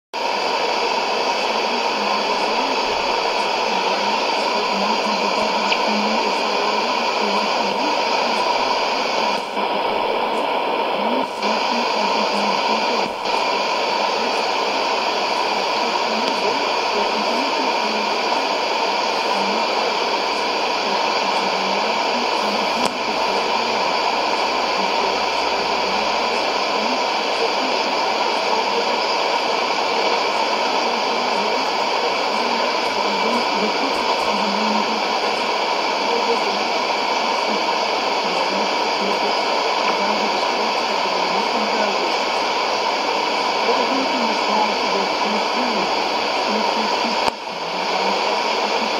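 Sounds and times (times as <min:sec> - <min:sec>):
radio hiss and static: 0:00.1 - 0:48.9
faint radio voice: 0:00.2 - 0:48.9.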